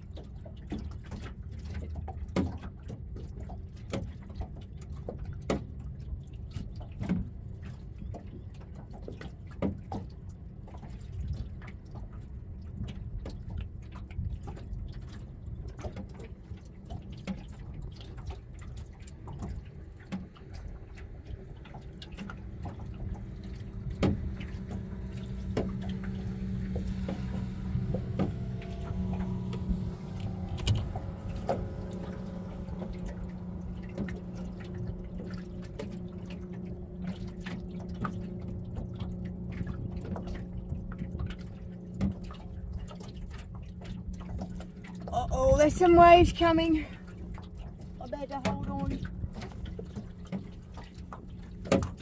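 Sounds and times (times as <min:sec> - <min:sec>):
motorboat engine drone: 0:00.0 - 0:52.0
water lapping against boat hull: 0:00.0 - 0:52.0.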